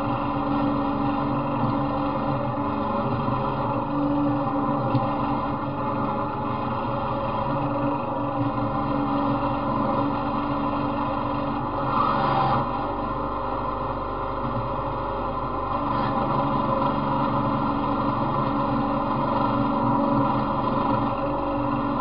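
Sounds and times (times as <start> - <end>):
riding mower engine running: 0.0 - 22.0.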